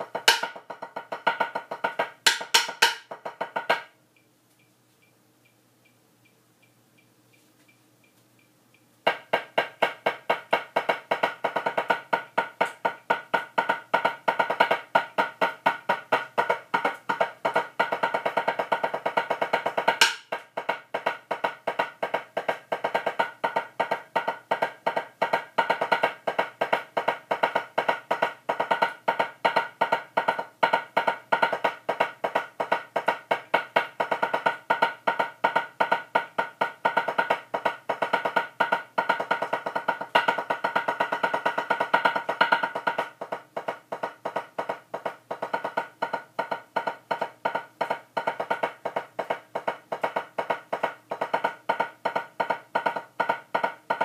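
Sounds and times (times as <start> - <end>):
drumsticks on a practice pad: 0.0 - 4.0, 9.0 - 54.0.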